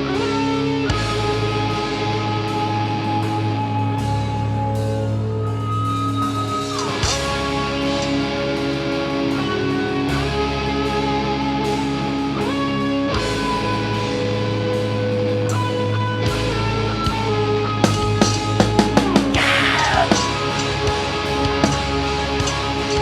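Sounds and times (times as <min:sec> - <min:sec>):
bass notes: 0:00.0 - 0:23.0
electric guitars holding long notes: 0:00.0 - 0:23.0.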